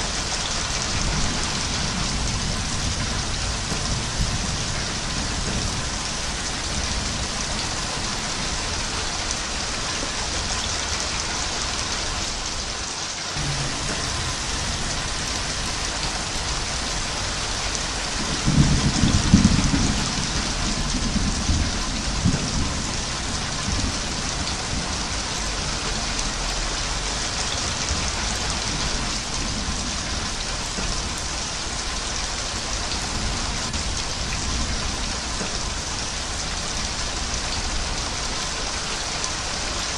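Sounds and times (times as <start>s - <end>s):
heavy rain hissing: 0.0s - 39.9s
rumble of thunder: 0.1s - 12.2s, 13.4s - 38.5s.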